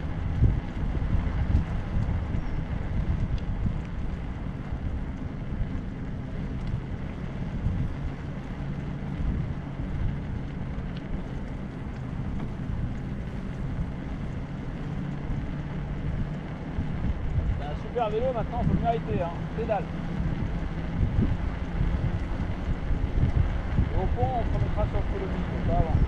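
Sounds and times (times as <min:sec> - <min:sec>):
bicycle rolling hum: 0:00.0 - 0:26.0
wind rushing over microphone: 0:00.0 - 0:26.0.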